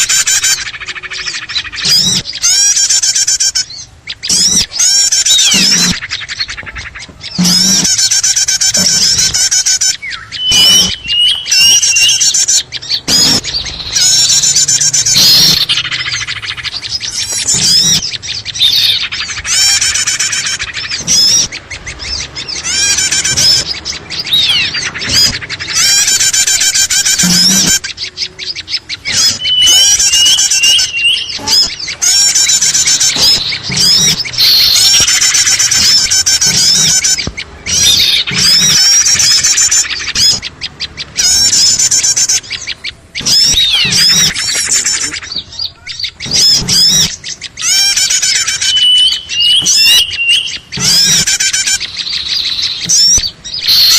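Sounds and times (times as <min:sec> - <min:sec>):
songbirds chattering trills: 0:00.0 - 0:53.9.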